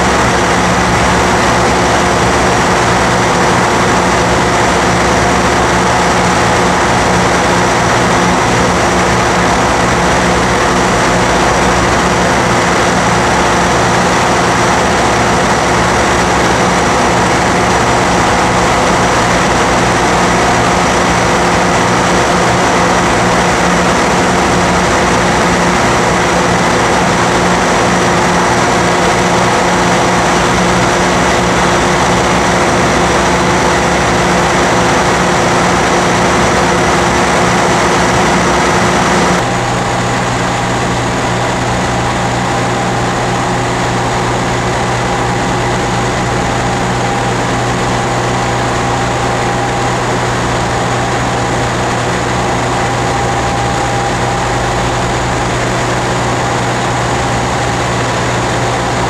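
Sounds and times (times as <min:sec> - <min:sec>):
vibratory pile driver droning: 0:00.0 - 0:59.0.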